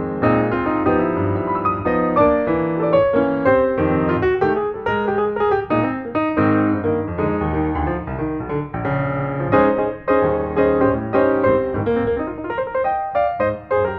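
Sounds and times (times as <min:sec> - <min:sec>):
piano music: 0:00.0 - 0:13.9.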